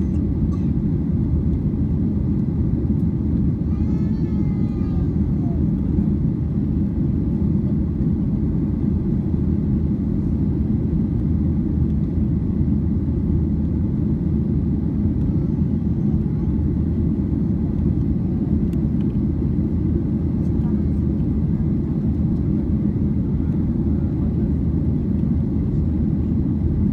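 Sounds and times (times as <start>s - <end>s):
jet engine rumble in cabin: 0.0s - 26.9s.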